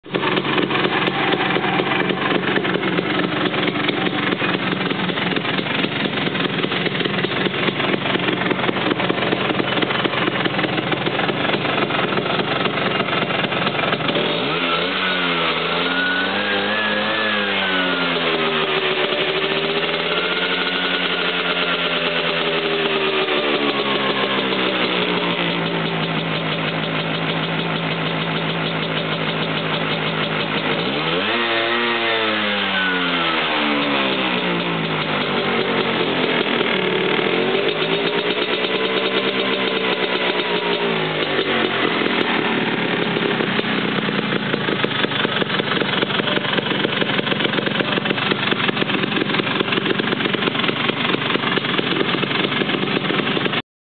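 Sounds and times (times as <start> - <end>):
scooter engine idling and revving: 0.0 - 53.6.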